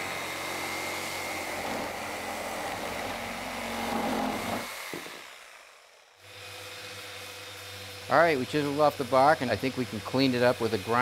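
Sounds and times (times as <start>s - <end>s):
reciprocating saw cutting wood: 0.0s - 11.0s.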